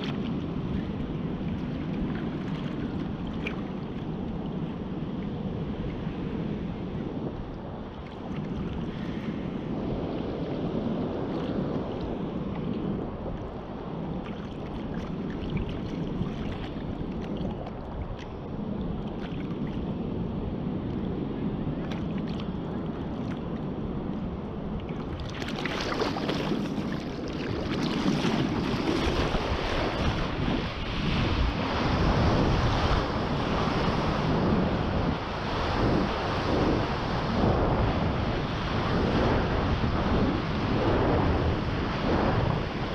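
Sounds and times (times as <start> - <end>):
ocean surf on beach: 0.0 - 42.9
wind buffeting microphone: 0.0 - 42.9.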